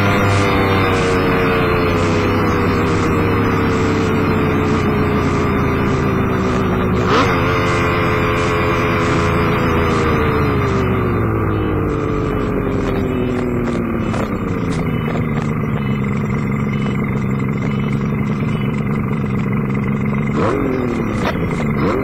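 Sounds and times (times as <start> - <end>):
motorcycle engine under load: 0.0 - 22.0.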